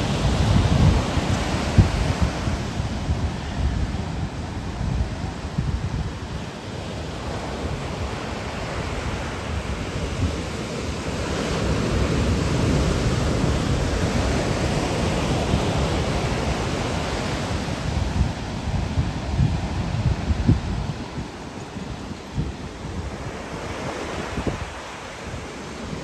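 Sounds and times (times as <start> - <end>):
ocean surf on shore: 0.0 - 26.0
wind gusting on microphone: 0.0 - 26.0.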